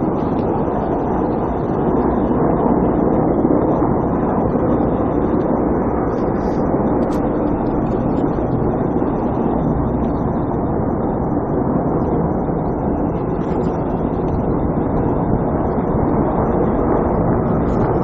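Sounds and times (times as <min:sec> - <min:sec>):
helicopters droning: 0:00.0 - 0:18.0.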